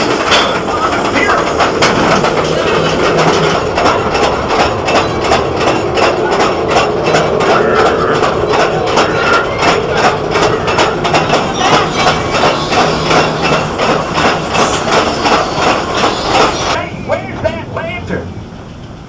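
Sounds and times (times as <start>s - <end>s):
steady track clacking: 0.0s - 19.0s
train cars rumbling on track: 0.0s - 19.0s.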